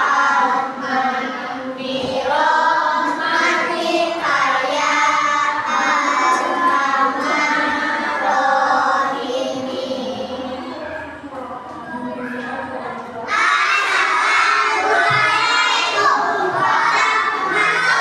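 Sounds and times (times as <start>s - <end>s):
young children singing in unison: 0.0s - 11.2s, 13.1s - 18.0s.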